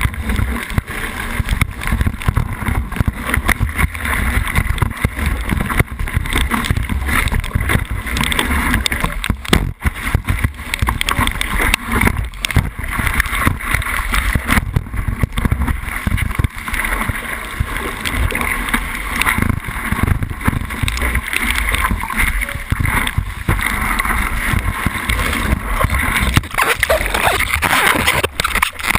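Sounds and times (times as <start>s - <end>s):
water rushing and spraying: 0.0s - 28.9s.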